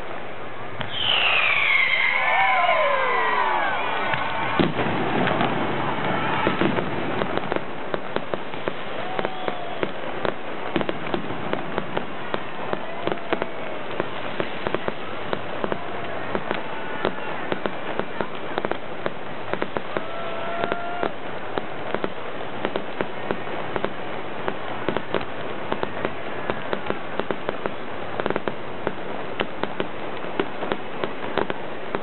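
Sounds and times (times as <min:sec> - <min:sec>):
fireworks pops and cracks: 0:00.0 - 0:32.0
steady background noise: 0:00.0 - 0:32.0.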